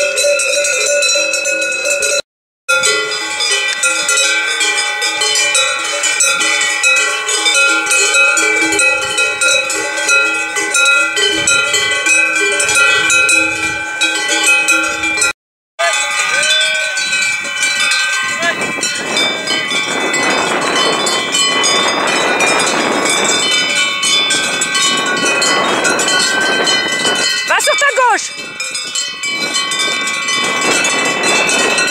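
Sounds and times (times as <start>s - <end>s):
cowbells jangling: 0.0s - 31.9s.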